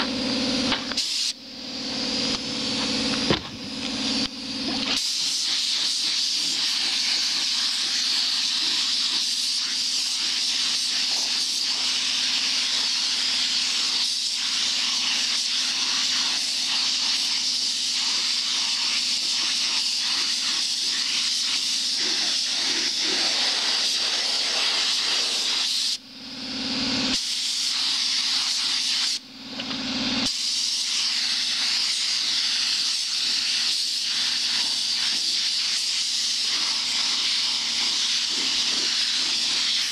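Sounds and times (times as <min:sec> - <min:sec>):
spray gun hissing: 0:00.8 - 0:03.4, 0:04.0 - 0:26.0, 0:27.1 - 0:29.2, 0:30.2 - 0:39.9.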